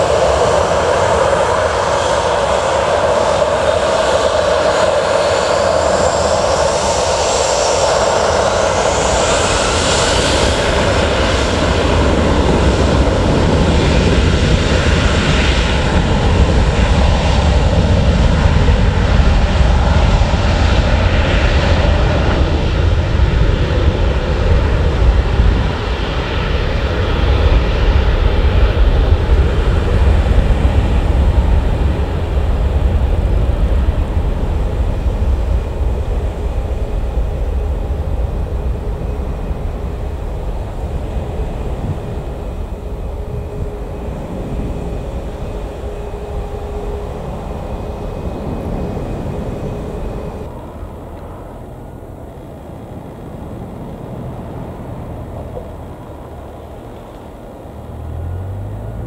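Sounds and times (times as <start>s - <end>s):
jet engines spooling up: 0.0s - 59.0s
loud jet noise with deep rumble: 0.0s - 59.0s.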